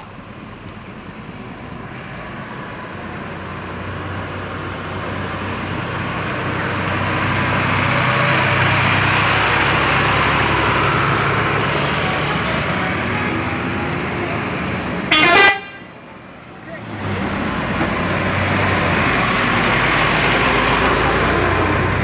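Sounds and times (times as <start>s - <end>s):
heavy bus engine running: 0.0s - 22.0s.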